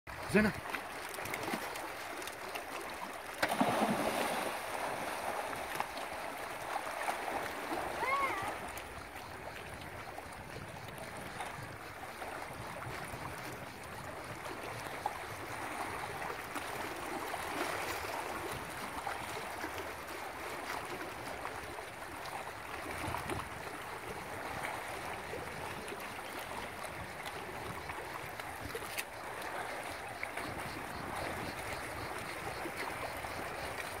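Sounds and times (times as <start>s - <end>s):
sea waves lapping on rocks: 0.1s - 34.0s.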